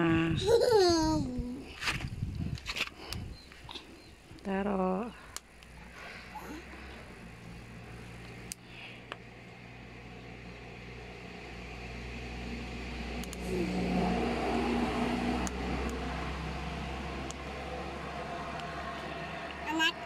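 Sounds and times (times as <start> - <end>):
motor engine humming: 3.2 - 20.0.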